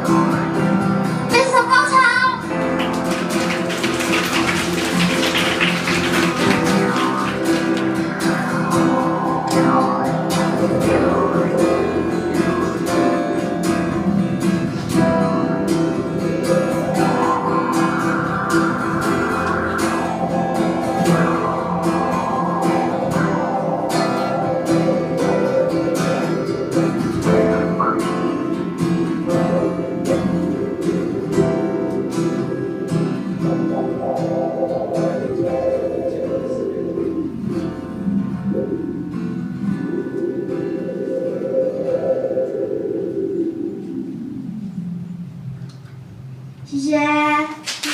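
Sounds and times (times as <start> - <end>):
acoustic guitar playing: 0.0 - 47.5.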